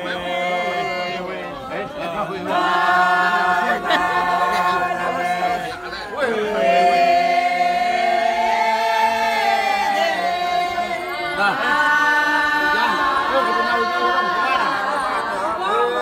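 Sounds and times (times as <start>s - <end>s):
group singing a chant: 0.0s - 16.0s.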